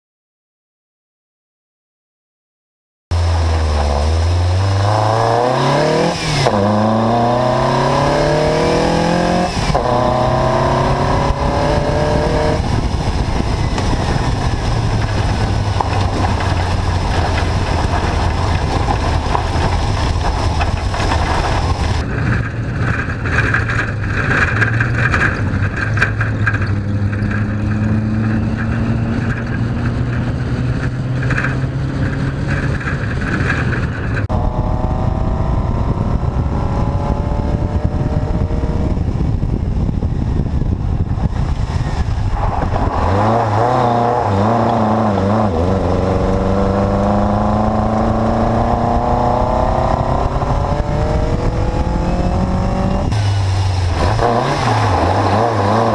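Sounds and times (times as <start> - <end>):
car engine accelerating: 3.1 - 55.9
road noise: 3.1 - 55.9.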